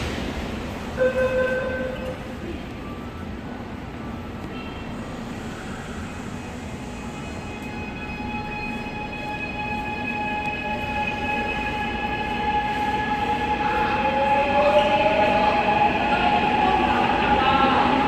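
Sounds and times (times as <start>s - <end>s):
subway train rumble: 0.0s - 18.0s.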